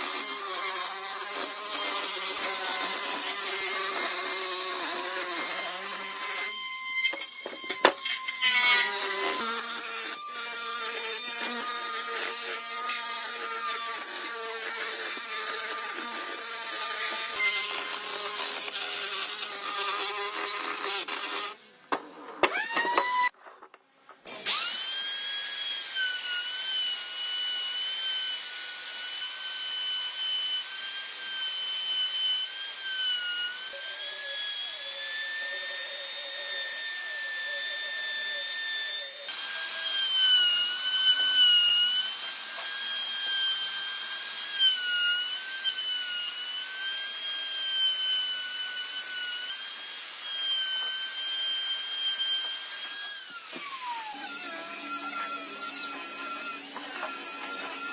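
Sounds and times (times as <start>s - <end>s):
power tool motor whining: 0.0s - 23.4s, 24.3s - 32.6s, 35.5s - 57.9s.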